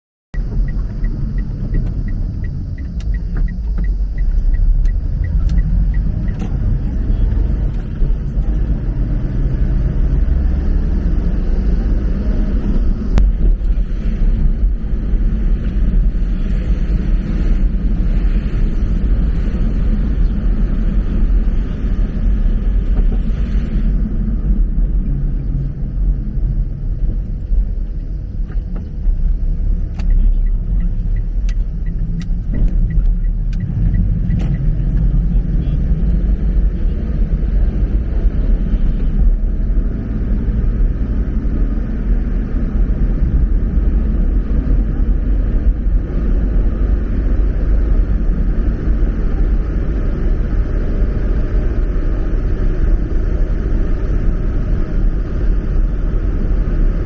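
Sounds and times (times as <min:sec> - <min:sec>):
vehicle rumble on the move: 0:00.3 - 0:57.0.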